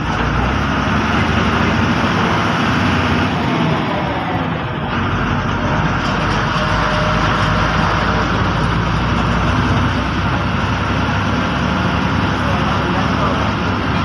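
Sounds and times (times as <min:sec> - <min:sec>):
bus diesel engine hum: 0:00.0 - 0:14.0
road and tyre noise: 0:00.0 - 0:14.0.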